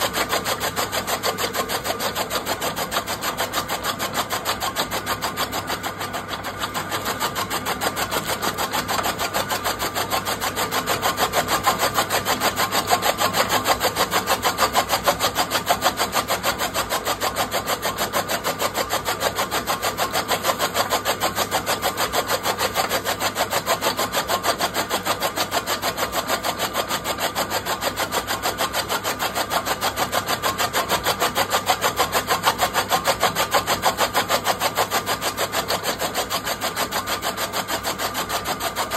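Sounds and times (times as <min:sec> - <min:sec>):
chaff cutter chopping fodder: 0:00.0 - 0:38.9.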